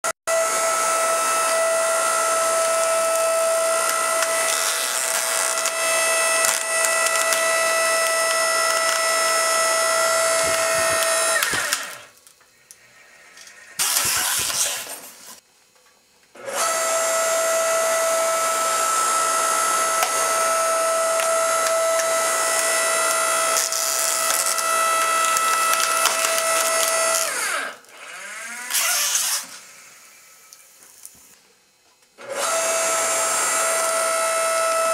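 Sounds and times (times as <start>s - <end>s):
press motor whining: 0.3s - 15.4s, 16.4s - 30.7s.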